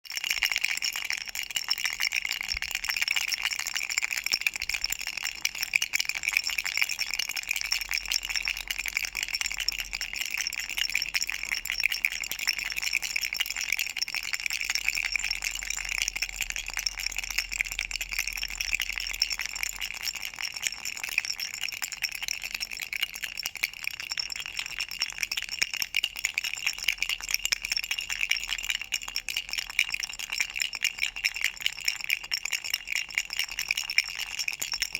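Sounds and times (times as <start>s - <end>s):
toy rattle shaking: 0.1s - 34.9s.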